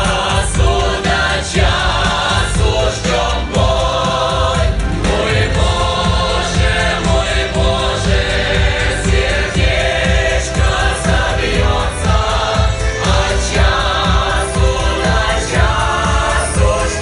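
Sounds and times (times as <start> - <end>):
choir singing over a beat: 0.0 - 17.0.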